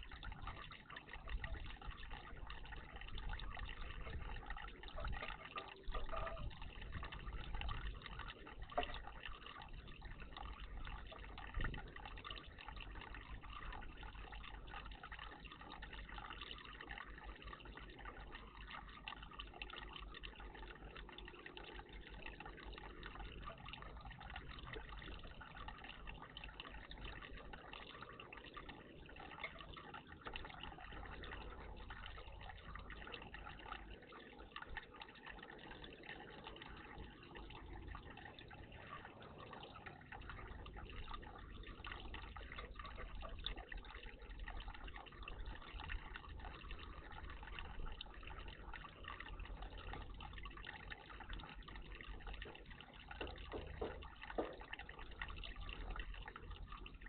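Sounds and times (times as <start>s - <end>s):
water trickling in bird bath: 0.0s - 57.0s.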